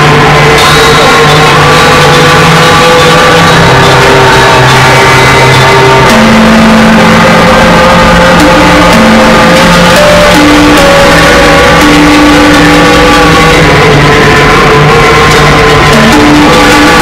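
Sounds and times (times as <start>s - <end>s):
noisy electronic music: 0.0s - 17.0s.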